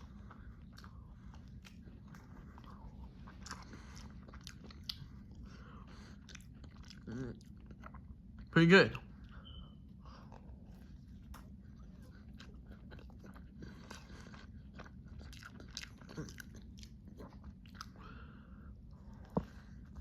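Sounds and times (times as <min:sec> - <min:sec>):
chewing and biting: 0:00.0 - 0:08.5, 0:10.1 - 0:20.0.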